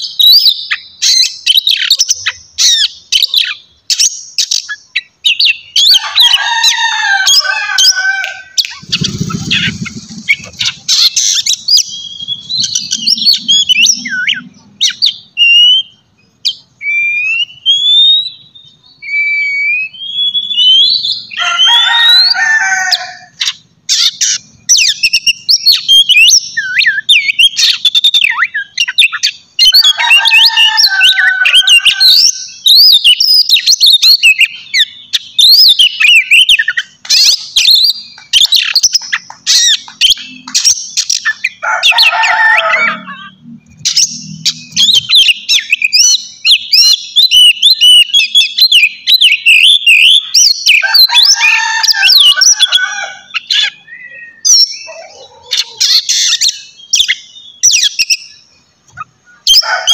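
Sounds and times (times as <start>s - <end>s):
bird singing whistles and trills: 0.0s - 22.4s, 23.3s - 59.9s.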